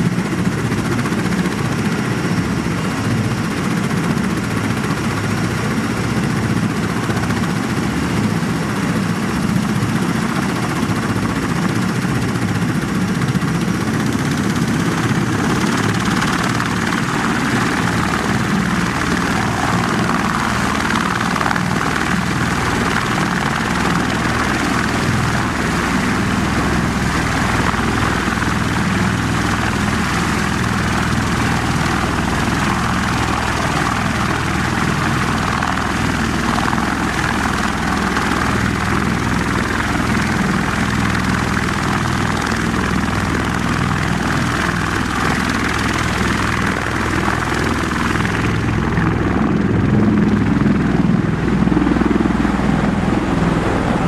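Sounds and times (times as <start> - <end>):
tiltrotor aircraft rotor and turbine noise: 0.0 - 54.0.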